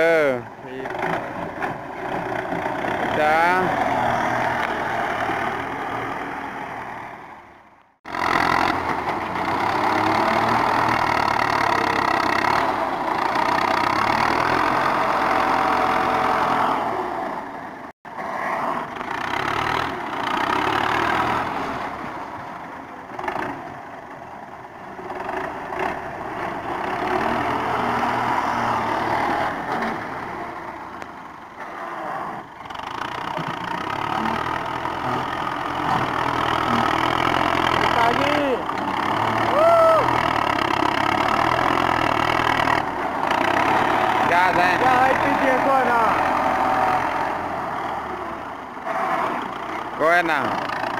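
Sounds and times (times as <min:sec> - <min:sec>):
tractor diesel engine running: 0:00.0 - 0:17.9, 0:18.7 - 0:50.9.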